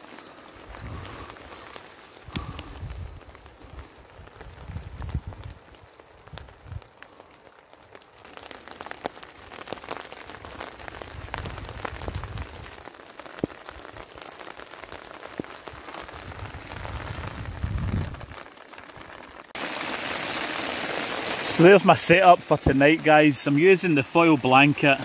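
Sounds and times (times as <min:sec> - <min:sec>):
rain on tent fabric: 0:00.0 - 0:25.0.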